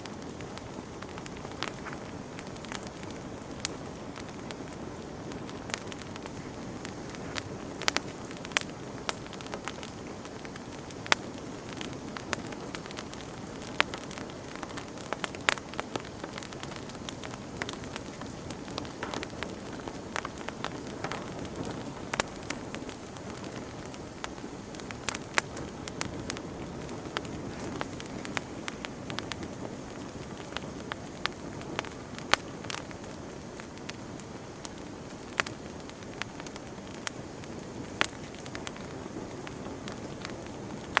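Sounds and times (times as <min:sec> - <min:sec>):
campfire rushing: 0:00.0 - 0:41.0
crackles and pops of burning wood: 0:00.0 - 0:41.0.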